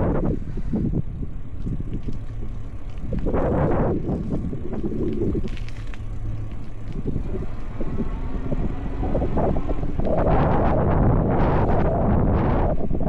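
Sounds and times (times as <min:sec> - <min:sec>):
electric bike rumble: 0:00.0 - 0:13.0
wind buffeting microphone: 0:00.0 - 0:13.0.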